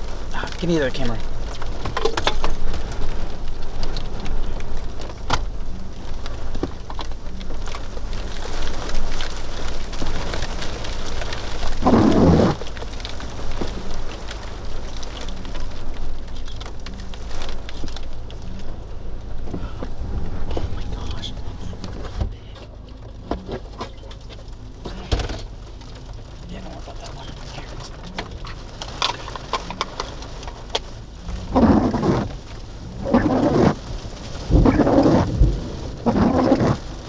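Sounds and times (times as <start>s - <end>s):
low wind rumble: 0.0s - 37.0s
rain: 0.0s - 37.0s.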